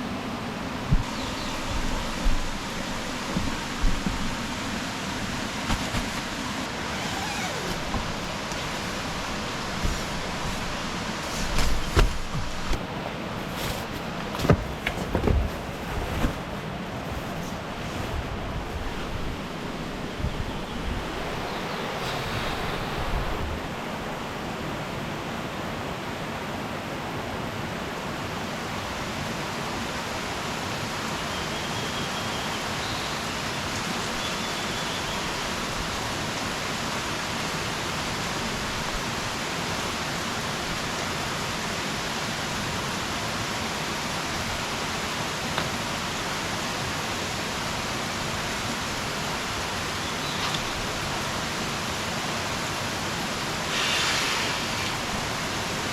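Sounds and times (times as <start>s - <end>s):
rushing mountain stream: 0.0s - 55.9s.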